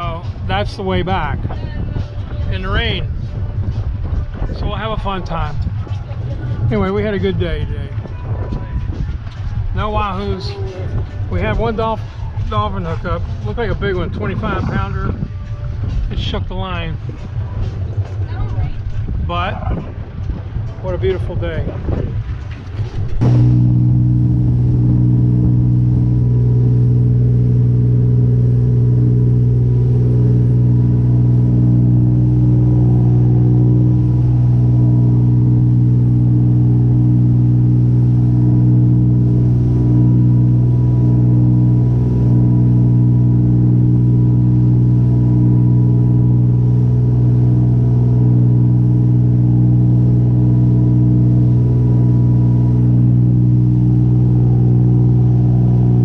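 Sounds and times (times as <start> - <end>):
boat engine low drone: 0.0 - 56.0.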